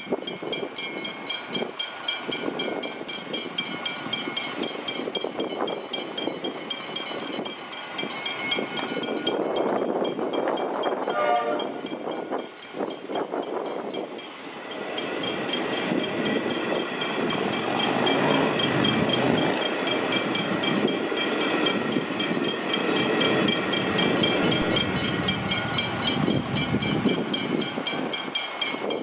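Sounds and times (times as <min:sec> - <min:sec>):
level crossing warning bells: 0:00.0 - 0:29.0
train wheels rumbling: 0:00.0 - 0:29.0.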